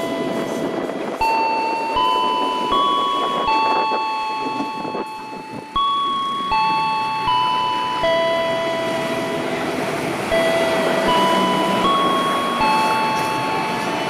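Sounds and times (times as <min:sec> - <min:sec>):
level crossing ding-dong chime: 0:00.0 - 0:09.7, 0:10.3 - 0:14.0
passing train rumble: 0:00.0 - 0:14.0.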